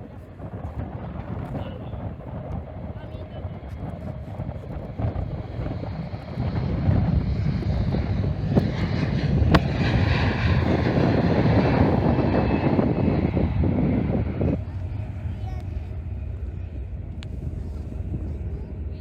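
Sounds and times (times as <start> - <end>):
jet airliner engine rumble: 0.0 - 19.0
jet engines whining: 1.0 - 19.0.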